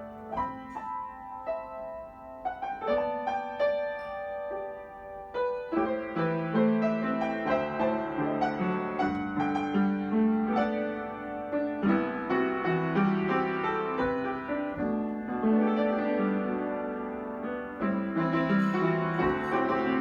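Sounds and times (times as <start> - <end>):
solo piano melody: 0.0 - 20.0.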